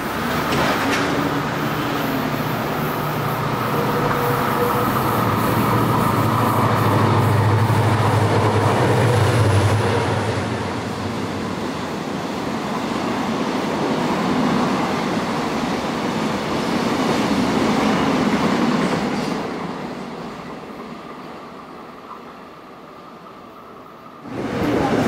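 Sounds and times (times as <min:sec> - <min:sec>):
freight train wheels rumbling: 0:00.0 - 0:22.2, 0:24.2 - 0:25.0.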